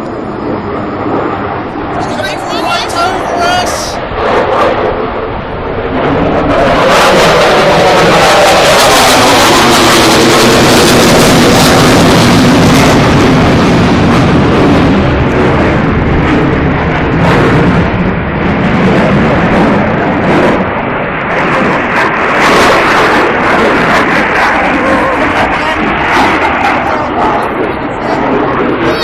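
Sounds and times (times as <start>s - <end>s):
jet aircraft roaring overhead: 0.0s - 29.0s.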